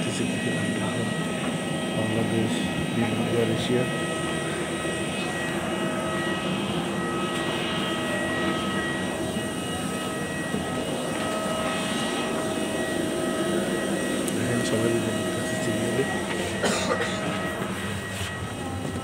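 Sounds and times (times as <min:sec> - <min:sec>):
high whining tones: 0:00.0 - 0:19.0
jet airliner air rush: 0:00.0 - 0:19.0.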